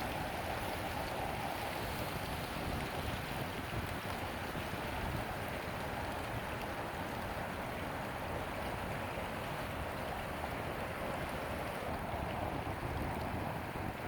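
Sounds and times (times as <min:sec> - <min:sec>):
steady outdoor rushing noise: 0:00.0 - 0:14.0
wind rumbling on microphone: 0:00.0 - 0:14.0.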